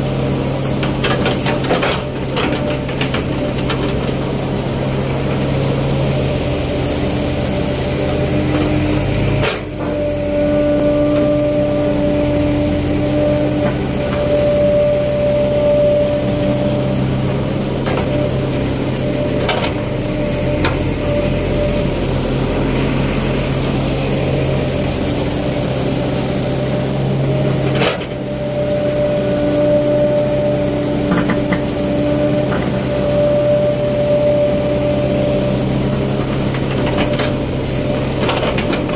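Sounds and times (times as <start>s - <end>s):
excavator diesel engine running: 0.0s - 38.9s
hydraulic whine: 0.0s - 38.9s.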